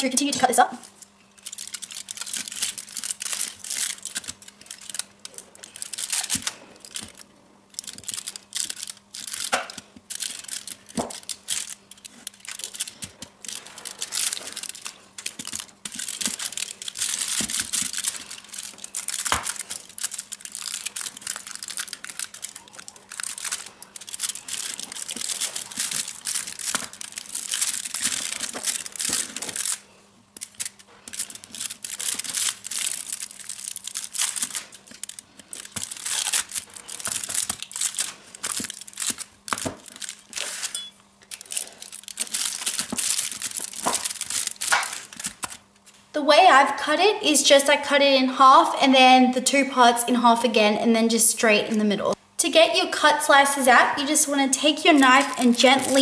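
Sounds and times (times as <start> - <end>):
knife crunching through candy: 0.8 - 45.8, 54.7 - 56.0
foil crinkling: 0.8 - 46.0, 54.2 - 56.0.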